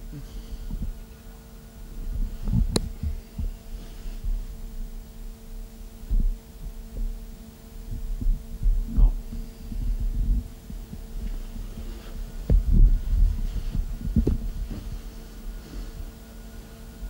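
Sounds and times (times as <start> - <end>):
low thumps and rumble: 0.0 - 1.2, 1.8 - 16.2
steady electrical hum: 0.0 - 17.0.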